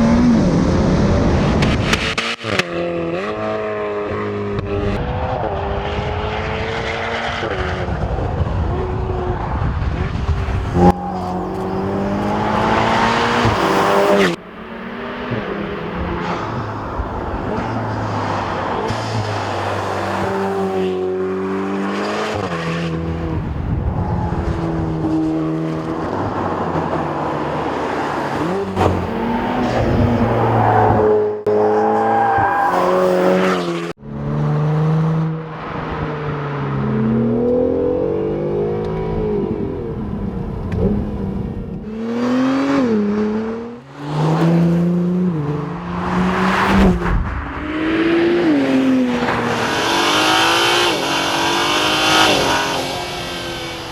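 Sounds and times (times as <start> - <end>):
car engine accelerating hard: 0.0 - 53.9.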